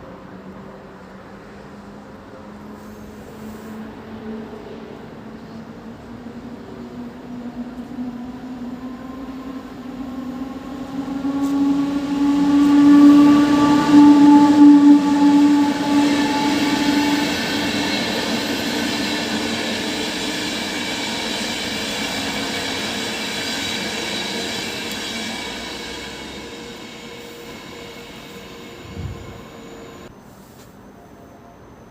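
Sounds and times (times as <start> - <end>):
electric locomotive hum: 0.0 - 30.1
train coaches rolling past: 0.0 - 30.1.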